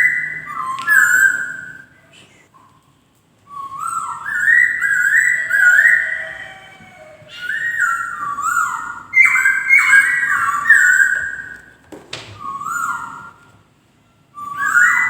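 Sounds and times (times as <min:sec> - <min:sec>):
bird whistling song: 0:00.0 - 0:13.6, 0:14.3 - 0:15.0.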